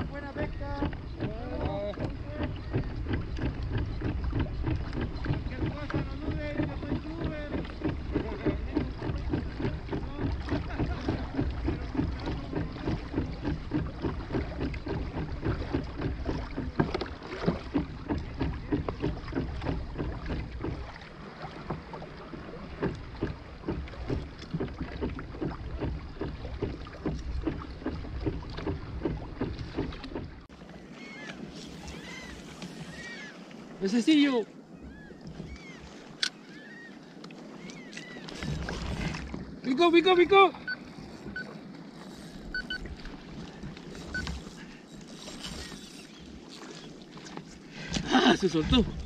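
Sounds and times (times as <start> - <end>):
water sloshing against hull: 0.0 - 49.0.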